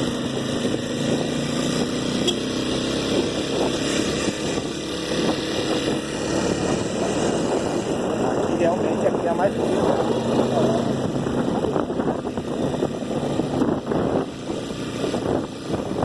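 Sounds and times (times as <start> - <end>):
motorcycle engine running: 0.0 - 16.0
wind noise: 0.0 - 16.0.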